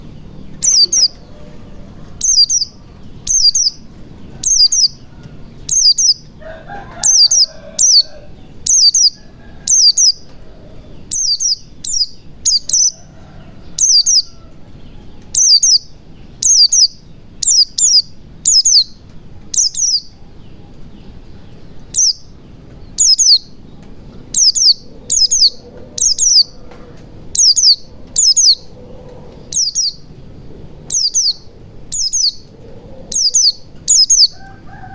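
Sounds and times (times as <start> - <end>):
bird chirping: 0.0 - 34.6.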